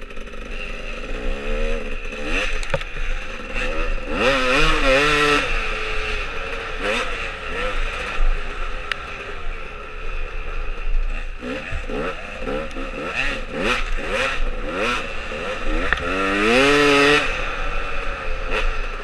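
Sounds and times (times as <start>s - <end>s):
dirt bike engine revving: 0.0s - 19.0s
wind and ride noise: 0.0s - 19.0s.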